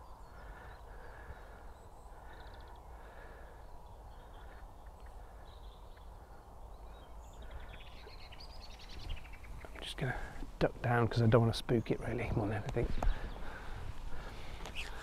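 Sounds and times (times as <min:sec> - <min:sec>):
quiet woodland background: 0:00.0 - 0:15.0.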